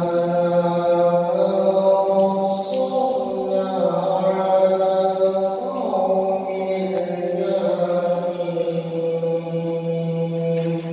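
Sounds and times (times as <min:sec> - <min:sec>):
man chanting unaccompanied: 0:00.0 - 0:10.9.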